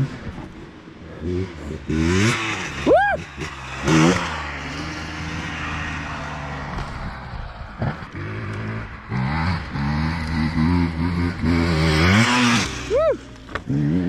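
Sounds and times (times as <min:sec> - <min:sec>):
dirt bike engine revving: 0:01.0 - 0:14.0.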